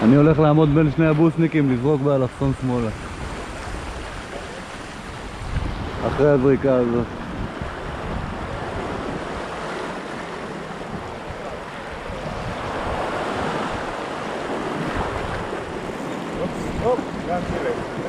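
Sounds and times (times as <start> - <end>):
sea waves washing against rocks: 0.0 - 18.0
wind buffeting microphone: 0.0 - 18.0.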